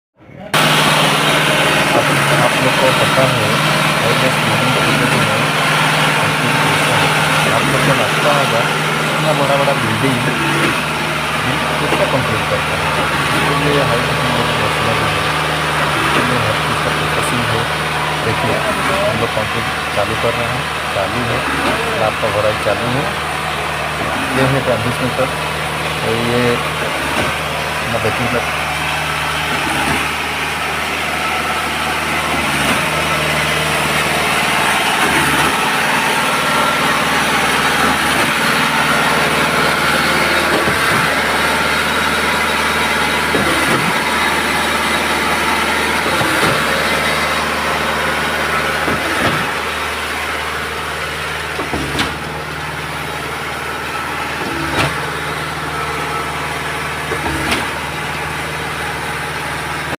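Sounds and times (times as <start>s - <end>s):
machine engine running: 0.2s - 60.0s
machine clunking: 0.6s - 60.0s.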